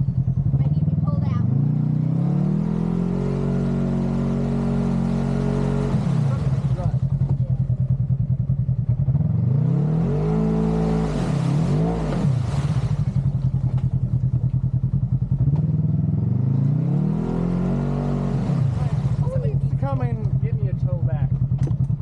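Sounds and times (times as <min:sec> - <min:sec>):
utility vehicle engine revving: 0:00.0 - 0:22.0.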